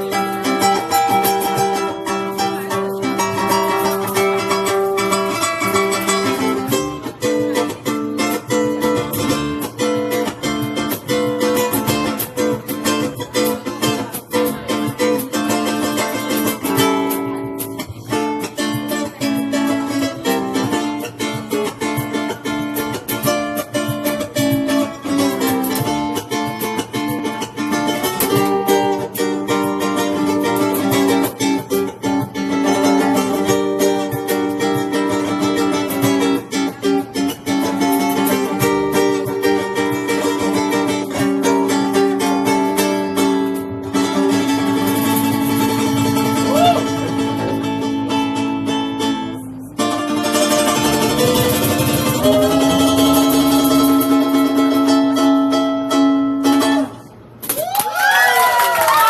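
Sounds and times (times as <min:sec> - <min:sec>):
ukulele strumming: 0:00.0 - 0:58.5.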